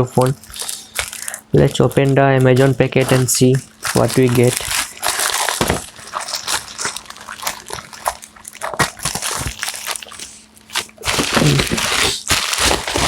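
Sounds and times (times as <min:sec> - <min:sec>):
plastic packet crinkling: 0:00.0 - 0:13.0
plastic packet tearing: 0:00.0 - 0:13.0.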